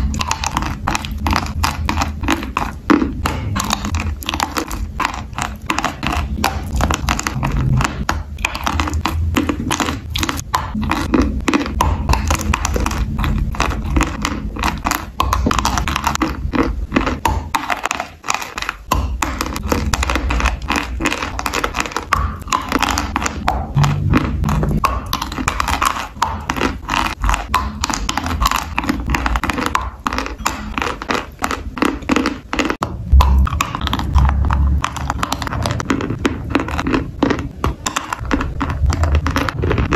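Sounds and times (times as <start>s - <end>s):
chewing crunchy chalk: 0.0s - 39.9s
low thumps of biting: 0.0s - 39.9s.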